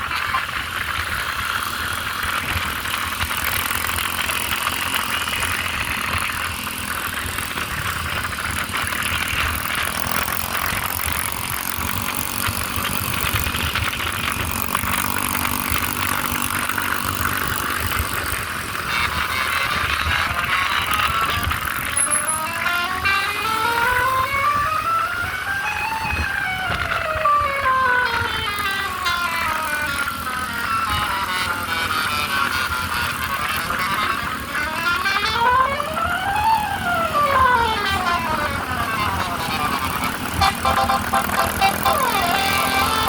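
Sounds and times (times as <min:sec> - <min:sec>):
buses and traffic passing: 0:00.0 - 0:43.0.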